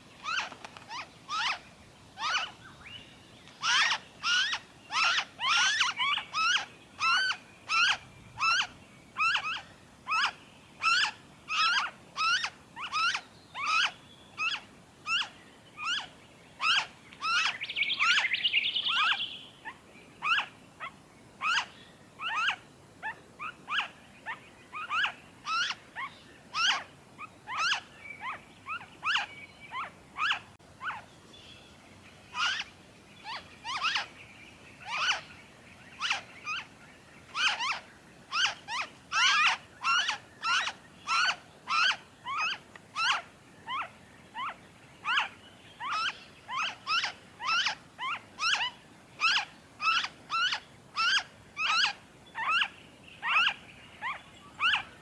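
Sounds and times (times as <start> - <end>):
nestlings begging calls: 0.2 - 1.6, 2.2 - 31.1, 32.3 - 34.2, 34.8 - 55.0.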